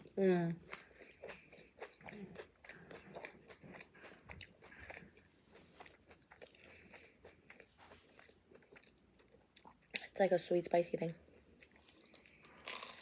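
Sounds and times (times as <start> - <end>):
person chewing food: 0.0 - 10.1, 11.2 - 13.0.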